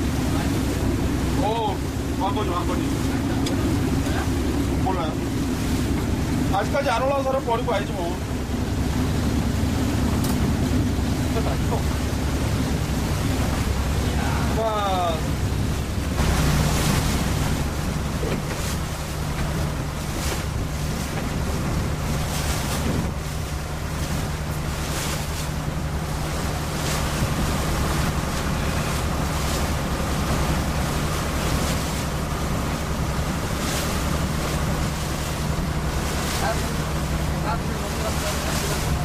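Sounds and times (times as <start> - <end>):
boat engine humming: 0.0 - 39.0
water rushing past: 0.0 - 39.0
wind buffeting microphone: 0.0 - 39.0.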